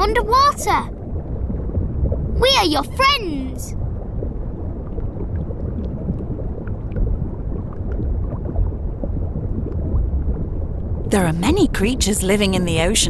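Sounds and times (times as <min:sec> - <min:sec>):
underwater low rumble: 0:00.0 - 0:13.0.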